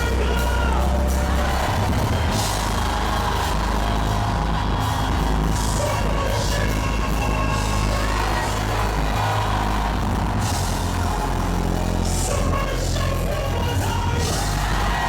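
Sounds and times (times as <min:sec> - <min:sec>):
church band playing: 0:00.0 - 0:15.0
congregation singing: 0:00.0 - 0:15.0.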